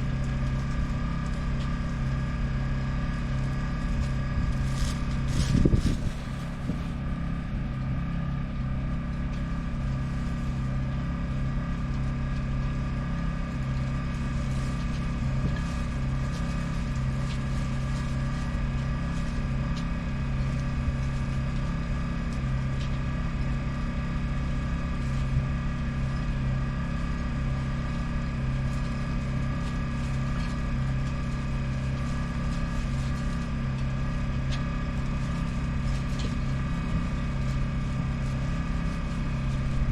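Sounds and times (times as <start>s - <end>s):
boat engine idling: 0.0s - 39.9s.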